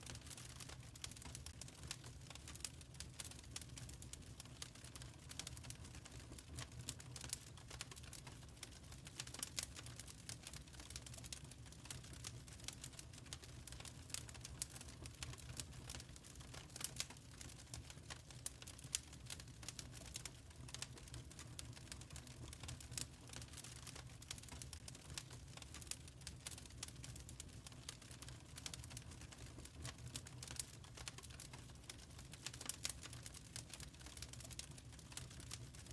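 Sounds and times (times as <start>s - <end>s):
low steady fire rumble: 0.0s - 35.9s
wood fire crackling and popping: 0.0s - 35.9s.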